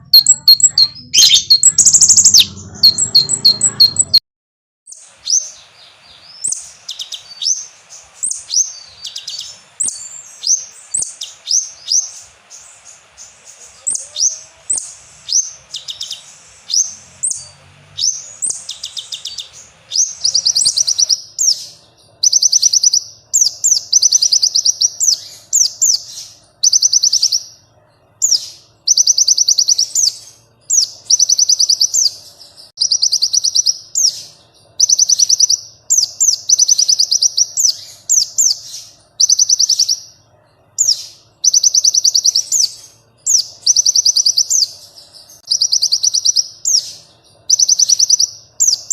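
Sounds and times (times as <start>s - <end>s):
songbird trilling: 0.0s - 4.2s, 4.9s - 27.6s, 28.2s - 48.9s
sweeping chirps: 0.0s - 4.2s, 4.9s - 48.9s.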